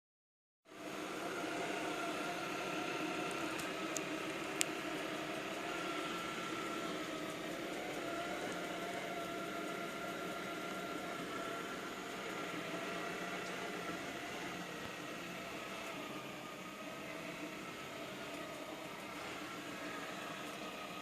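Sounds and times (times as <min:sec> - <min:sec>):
robot vacuum whirring: 0:00.7 - 0:21.0.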